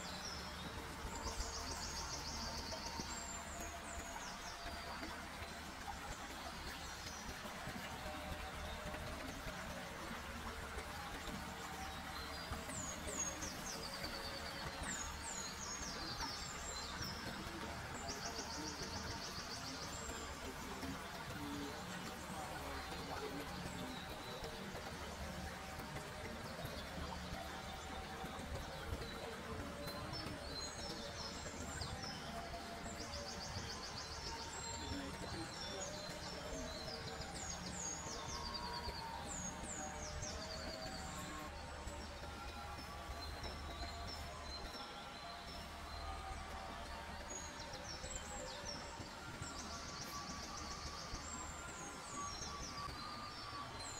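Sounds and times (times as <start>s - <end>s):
songbirds whistling: 0.0s - 53.9s.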